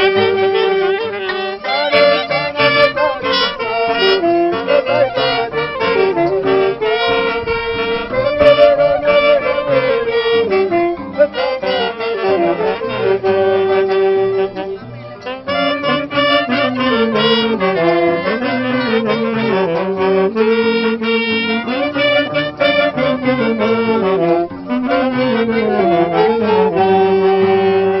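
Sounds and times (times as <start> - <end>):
saxophones and trumpet playing: 0.0 - 28.0.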